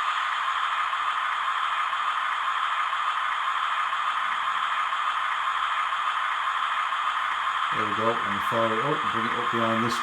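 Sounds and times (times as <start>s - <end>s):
tinny diesel engine sound: 0.0s - 10.0s.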